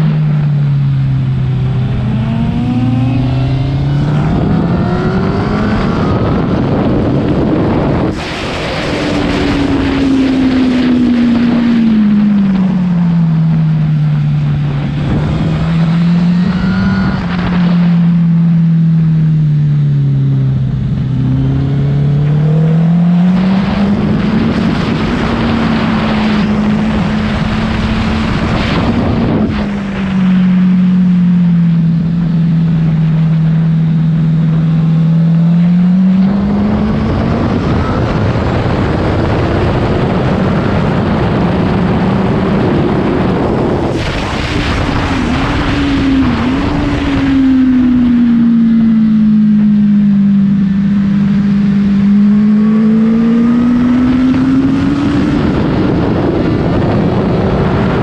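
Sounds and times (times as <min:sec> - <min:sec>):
motorcycle engine revving: 0:00.0 - 0:58.0
wind across microphone: 0:00.9 - 0:18.6, 0:20.5 - 0:48.7, 0:50.9 - 0:58.0.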